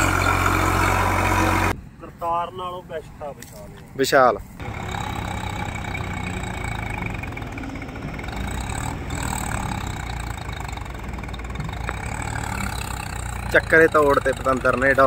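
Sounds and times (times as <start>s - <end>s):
tractor diesel engine running: 0.0s - 1.8s, 4.6s - 15.0s.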